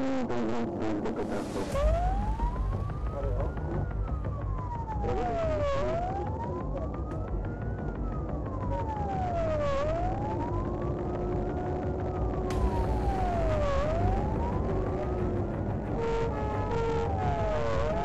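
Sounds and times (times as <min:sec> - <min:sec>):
truck engine and road noise: 0:00.0 - 0:18.0
fire engine siren wailing: 0:01.2 - 0:18.0.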